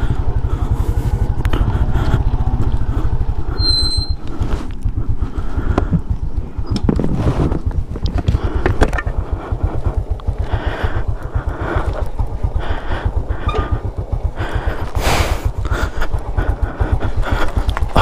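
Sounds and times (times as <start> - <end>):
rattling on rough dirt road: 0.0 - 18.0
scooter engine putting: 0.0 - 18.0.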